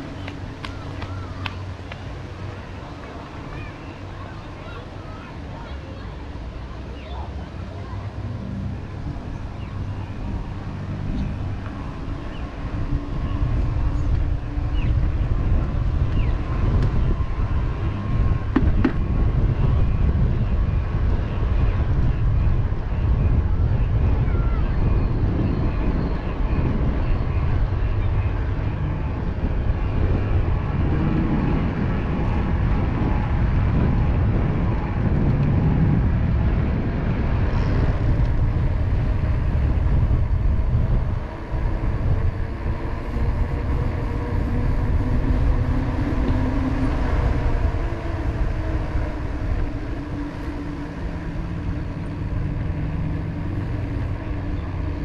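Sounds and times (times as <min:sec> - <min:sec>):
low engine-like hum: 0:00.0 - 0:55.0
traffic passing: 0:00.0 - 0:55.0
wind on microphone: 0:00.0 - 0:55.0.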